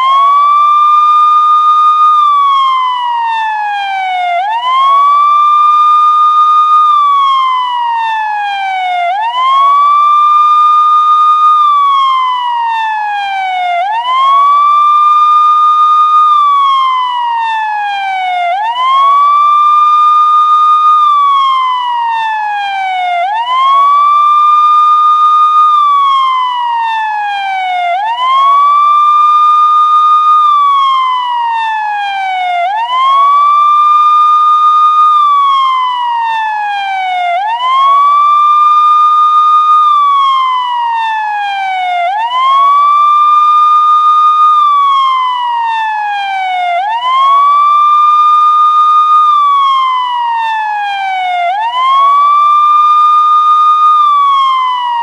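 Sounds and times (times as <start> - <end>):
police siren wailing: 0.0 - 55.0.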